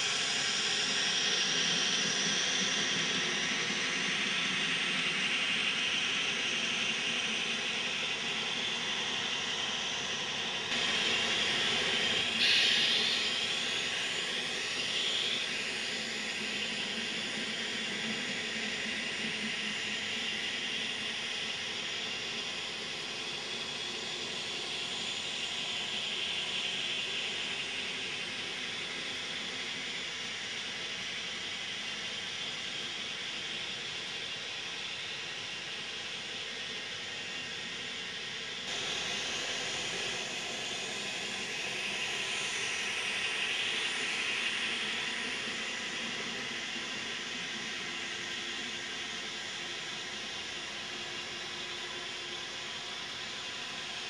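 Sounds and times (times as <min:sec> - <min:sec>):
model train whirring on rails: 0:00.0 - 0:54.0.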